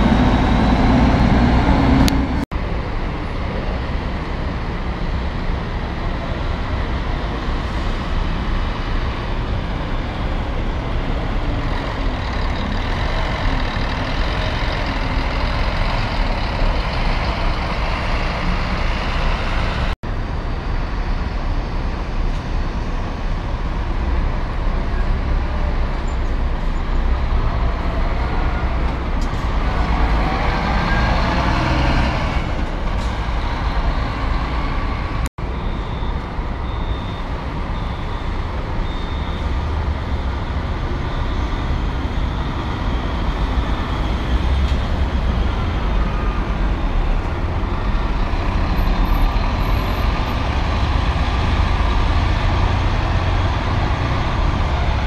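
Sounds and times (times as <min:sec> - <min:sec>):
diesel coach engines running: 0:00.0 - 0:55.0.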